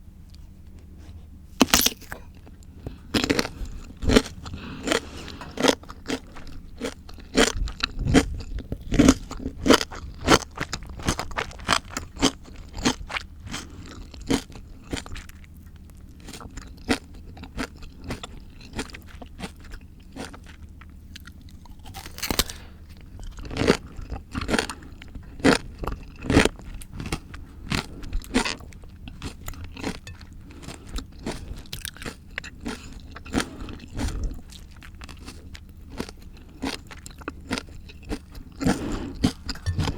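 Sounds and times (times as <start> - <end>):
crunchy vegetables being chewed: 0.2 - 39.9.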